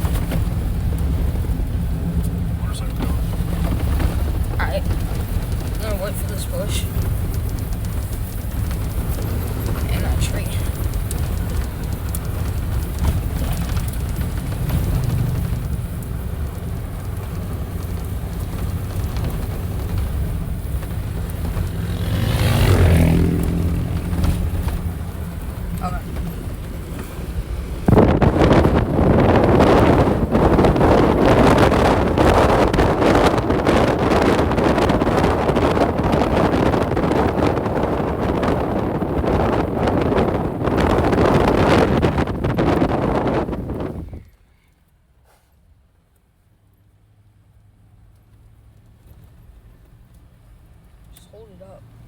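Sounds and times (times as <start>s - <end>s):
wind buffeting microphone: 0.0s - 44.4s
off-road vehicle engine rumbling: 0.0s - 52.0s.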